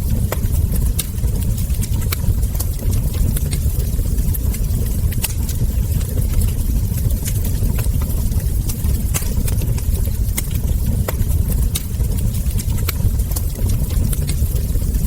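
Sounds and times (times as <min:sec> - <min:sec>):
fire low rumble: 0:00.0 - 0:15.0
wood fire popping and snapping: 0:00.0 - 0:15.0.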